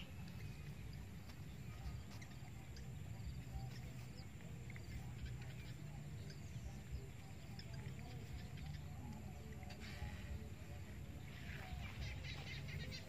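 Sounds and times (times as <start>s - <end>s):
faint high chirps: 0.0s - 13.0s.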